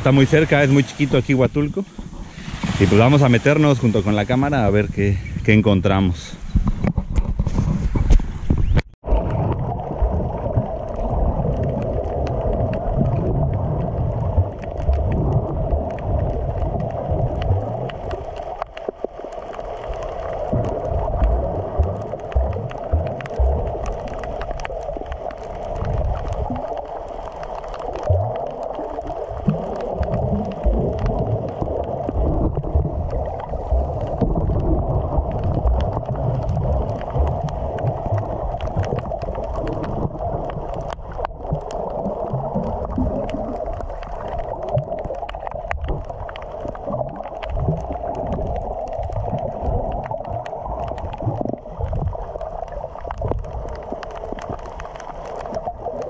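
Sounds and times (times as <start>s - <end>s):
low thumps and gurgles: 0.0s - 56.0s
muffled underwater rush: 0.0s - 56.0s.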